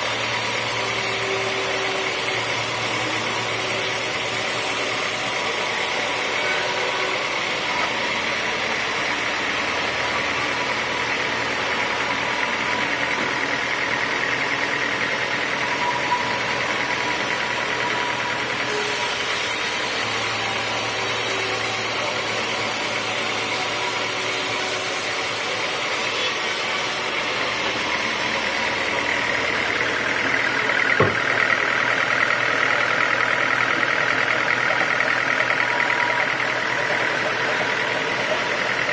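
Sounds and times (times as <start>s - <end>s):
high machine whine: 0.0s - 38.9s
sawmill sawing a log: 0.0s - 38.9s.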